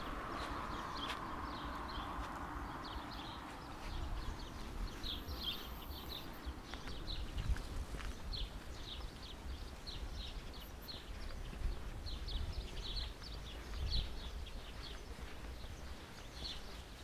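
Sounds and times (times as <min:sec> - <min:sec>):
low outdoor rumble: 0:00.0 - 0:16.8
small birds chirping: 0:00.0 - 0:17.0.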